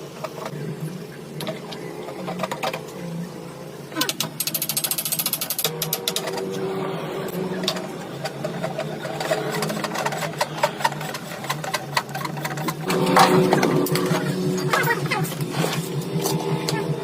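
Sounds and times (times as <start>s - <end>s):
workshop machine humming: 0.0s - 17.0s.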